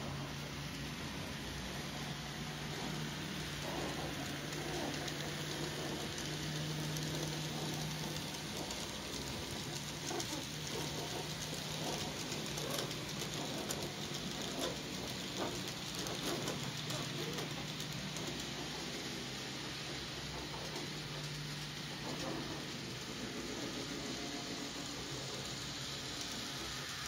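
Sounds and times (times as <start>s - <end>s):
model train motor hum: 0.0s - 27.0s
wheels clicking over rail joints: 0.1s - 27.0s.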